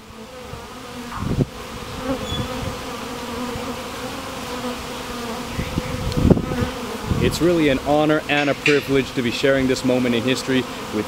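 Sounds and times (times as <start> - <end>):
bee swarm buzzing: 0.0 - 11.0.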